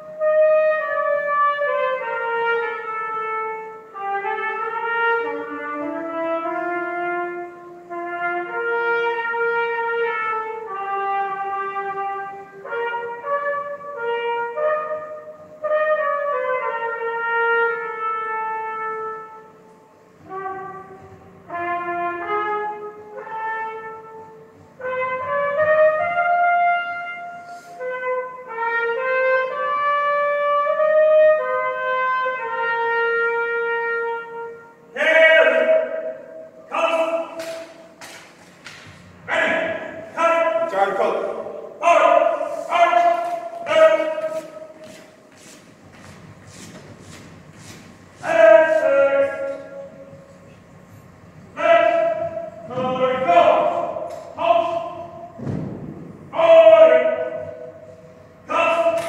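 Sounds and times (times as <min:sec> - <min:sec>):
solo trumpet slow melody: 0:00.0 - 0:38.1, 0:39.3 - 0:45.3, 0:48.1 - 0:59.0.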